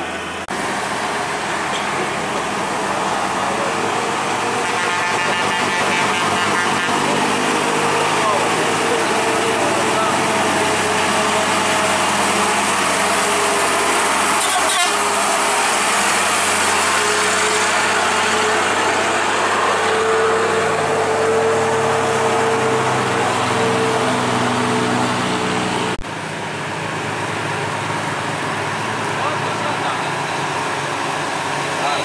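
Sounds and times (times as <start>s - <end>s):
heavy truck engine climbing: 0.0s - 32.0s
tyre and road noise: 0.0s - 32.0s.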